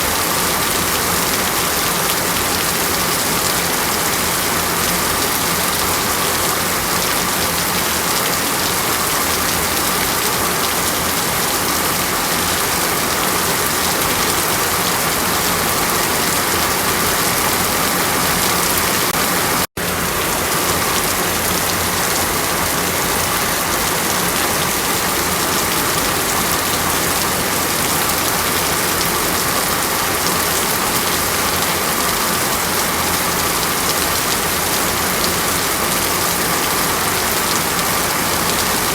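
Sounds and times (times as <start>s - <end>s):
water rushing steadily: 0.0s - 38.9s.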